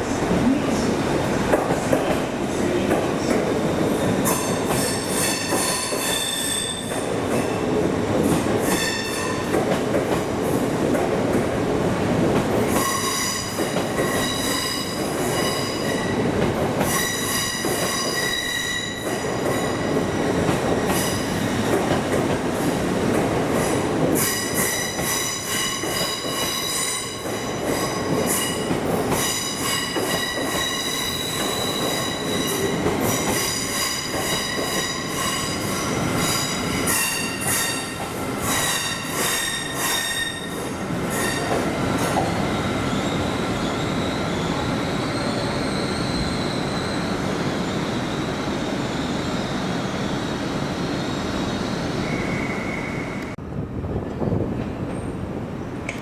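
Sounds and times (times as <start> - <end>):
train wheels squealing on rails: 2.1 - 10.6, 12.5 - 53.4.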